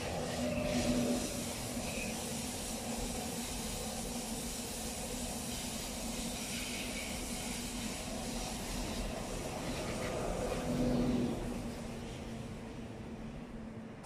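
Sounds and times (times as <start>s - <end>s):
train rolling hiss: 0.0s - 13.8s.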